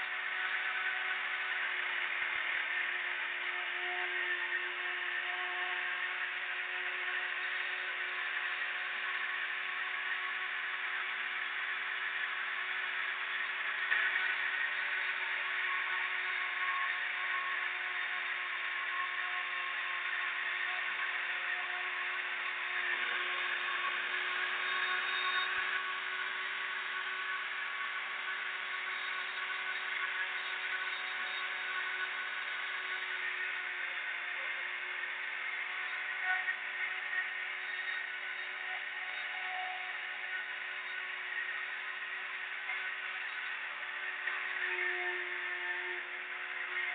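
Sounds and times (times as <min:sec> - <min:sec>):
electric machine tool whirring: 0:00.0 - 0:46.9.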